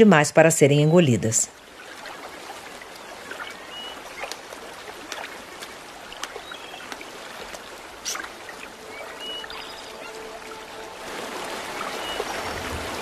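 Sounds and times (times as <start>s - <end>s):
stream babbling over stones: 0.7s - 13.0s
water splashes: 1.0s - 13.0s.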